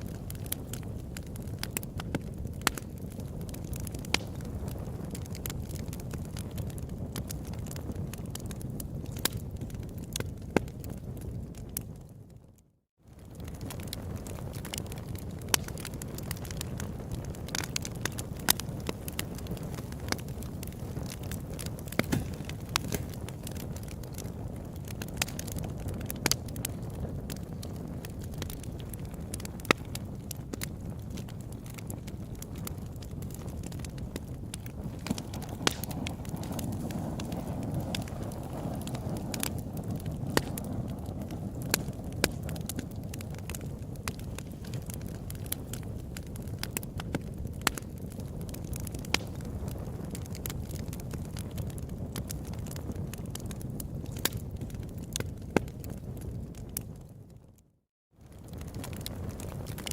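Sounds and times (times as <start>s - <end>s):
burning wood popping: 0.0s - 12.1s, 13.1s - 57.1s, 58.2s - 59.9s
campfire crackling: 0.0s - 12.4s, 13.1s - 57.4s, 58.2s - 59.9s
low rush of flame: 0.0s - 12.4s, 13.1s - 57.4s, 58.2s - 59.9s.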